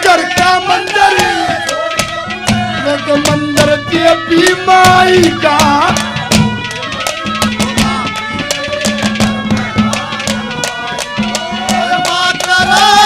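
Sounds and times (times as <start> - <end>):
rapid hand-drum strokes: 0.0 - 13.0
wavering melody line: 0.0 - 13.0.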